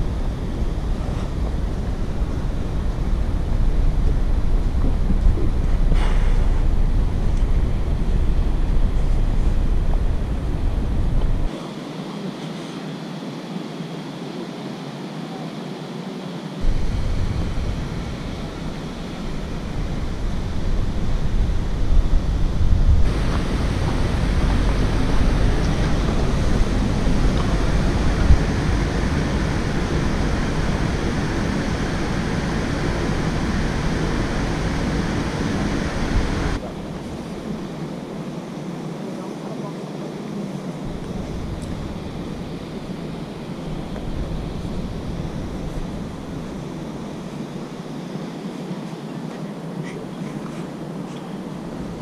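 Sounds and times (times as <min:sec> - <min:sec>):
wind buffeting microphone: 0:00.0 - 0:11.6, 0:16.6 - 0:38.6, 0:40.6 - 0:48.8.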